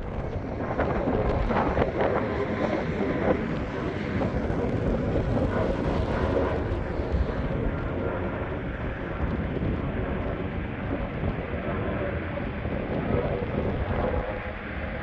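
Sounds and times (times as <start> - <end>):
jet engine rumble and roar: 0.0 - 15.0.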